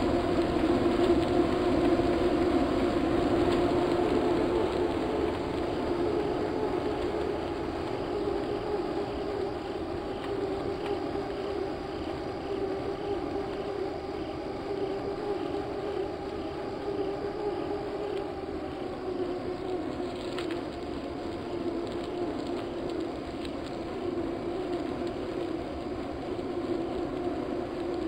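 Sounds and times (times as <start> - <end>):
droning hum: 0.0 - 28.0
rushing noise: 0.0 - 28.0.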